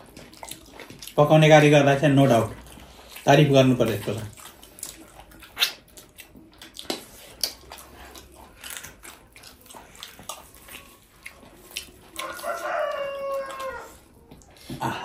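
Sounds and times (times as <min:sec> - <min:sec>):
wet chewing and mouth smacks: 0:00.0 - 0:15.0.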